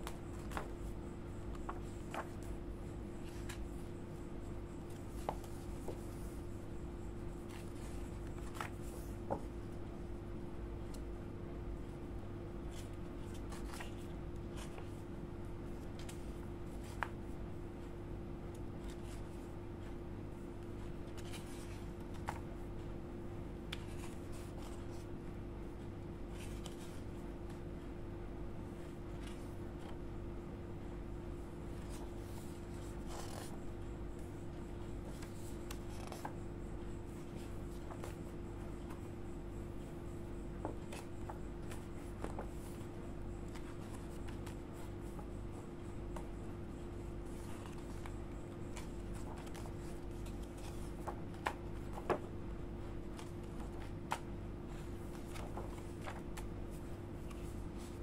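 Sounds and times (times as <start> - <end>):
paper and cards rustling: 0.0 - 10.0, 11.8 - 20.0, 20.6 - 22.9, 23.6 - 25.1, 25.8 - 27.7, 31.6 - 39.2, 39.8 - 52.4, 53.0 - 58.0
steady background hum: 0.0 - 58.0.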